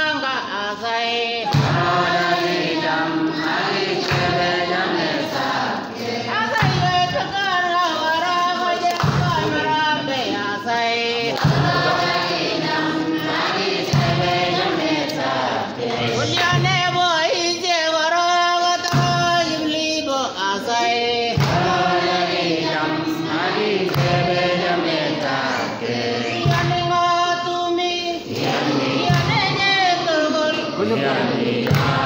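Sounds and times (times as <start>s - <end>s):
church choir singing: 0.0s - 32.0s.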